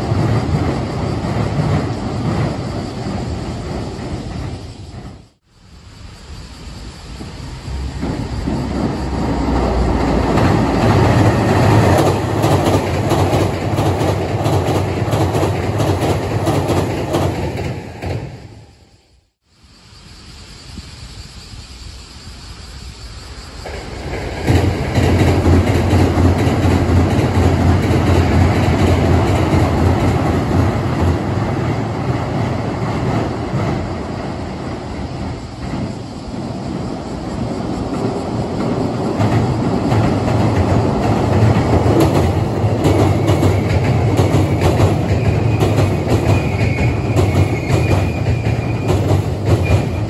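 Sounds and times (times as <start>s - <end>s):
train rumbling over steel bridge: 0.0s - 50.0s.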